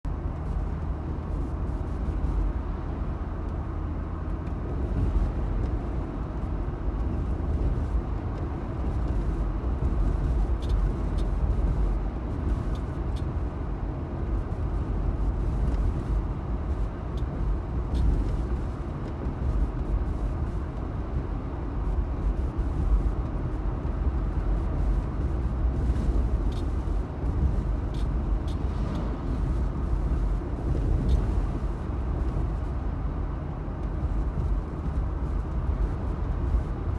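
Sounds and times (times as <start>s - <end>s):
road and drivetrain rumble: 0.0s - 36.9s.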